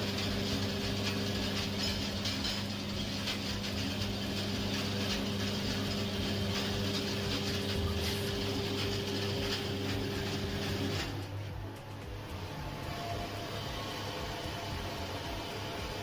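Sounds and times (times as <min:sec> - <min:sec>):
casting machine motor hum: 0:00.0 - 0:16.0.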